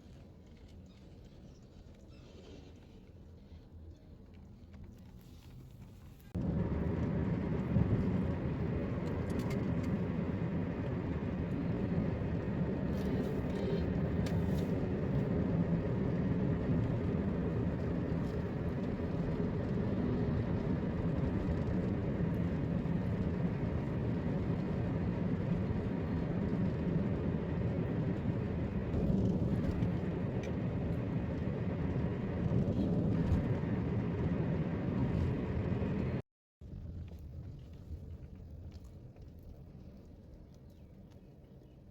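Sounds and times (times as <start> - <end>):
car engine and road noise: 2.4 - 38.9.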